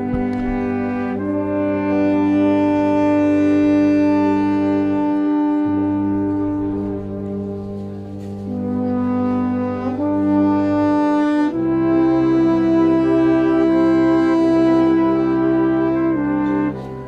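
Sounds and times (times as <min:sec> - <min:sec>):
slow brass-like chords: 0:00.0 - 0:17.0.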